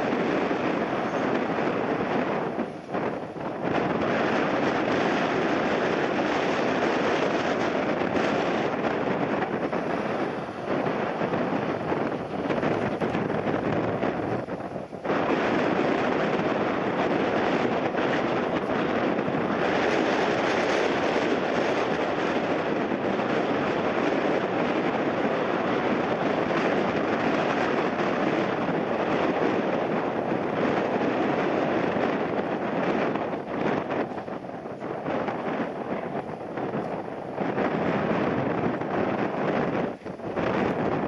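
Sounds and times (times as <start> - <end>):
jet airliner engines: 0.0 - 41.0.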